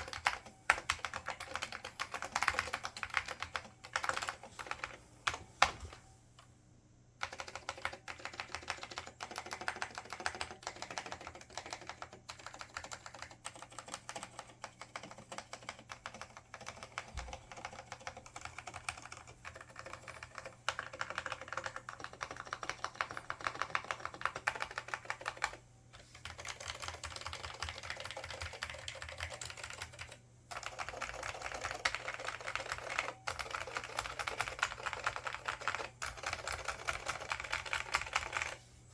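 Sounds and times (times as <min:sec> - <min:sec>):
fast typing on keyboard: 0:00.0 - 0:06.0, 0:07.2 - 0:38.6.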